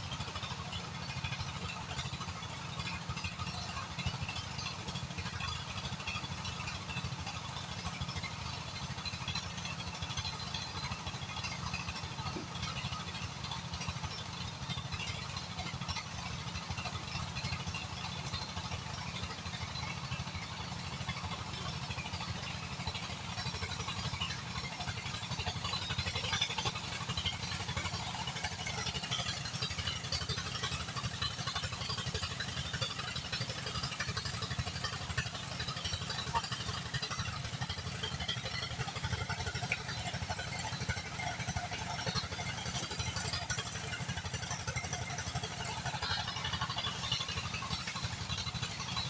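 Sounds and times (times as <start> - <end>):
small engine idling: 0.0 - 49.0.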